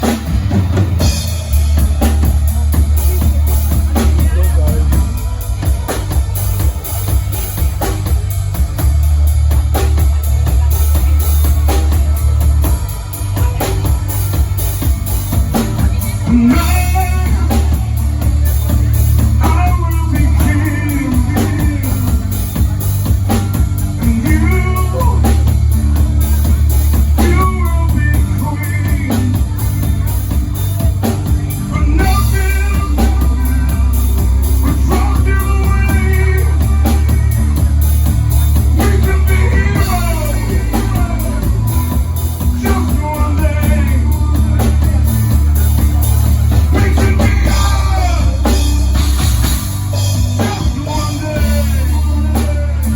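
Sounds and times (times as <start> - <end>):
bass guitar: 0.0 - 52.9
drum kit: 0.0 - 52.9
person singing: 0.0 - 52.9.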